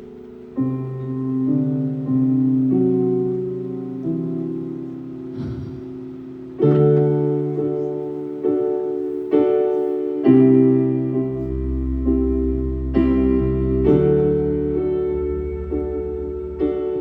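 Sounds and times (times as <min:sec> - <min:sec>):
keyboard playing slow chords: 0:00.0 - 0:17.0.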